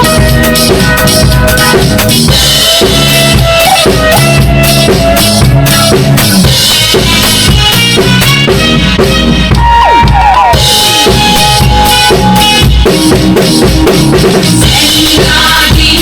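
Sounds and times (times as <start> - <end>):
drum kit playing: 0.0 - 16.0
pop song with bass and keyboards: 0.0 - 16.0.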